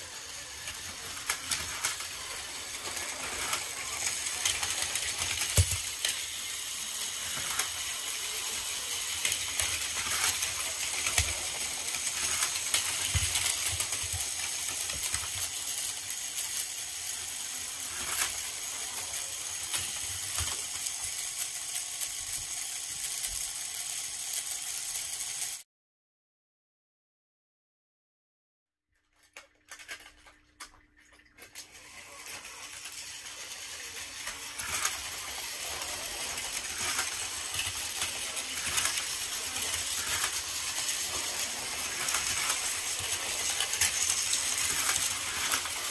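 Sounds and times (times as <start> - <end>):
toy train motors whirring: 0.0 - 25.7, 31.4 - 45.9.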